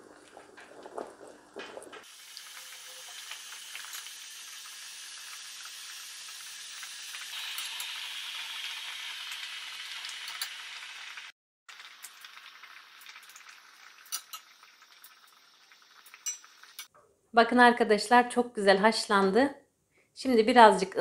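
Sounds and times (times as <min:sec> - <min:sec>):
water boiling in pot: 0:00.0 - 0:16.9.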